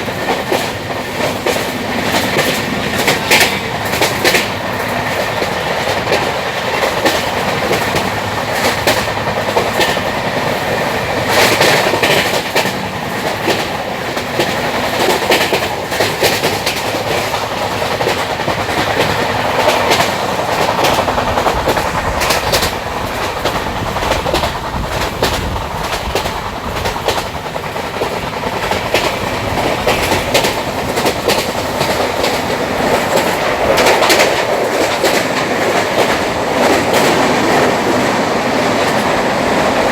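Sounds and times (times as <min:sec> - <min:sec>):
train wheels rumbling on rails: 0:00.0 - 0:39.9
wheels clicking over track joints: 0:00.0 - 0:39.9.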